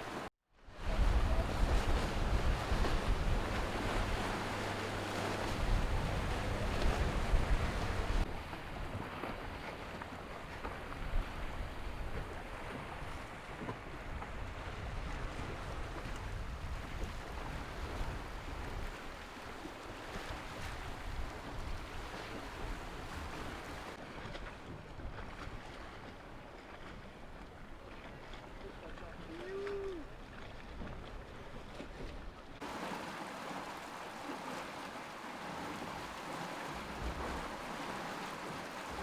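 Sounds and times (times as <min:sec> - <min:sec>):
water washing along hull: 0:00.0 - 0:39.0
wind buffeting microphone: 0:00.8 - 0:09.7, 0:10.5 - 0:26.1, 0:30.0 - 0:39.0.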